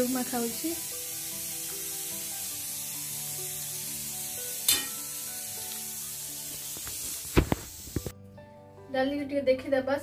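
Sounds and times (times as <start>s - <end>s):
pressure cooker hissing steam: 0.0s - 8.1s
soft background music: 0.0s - 10.0s.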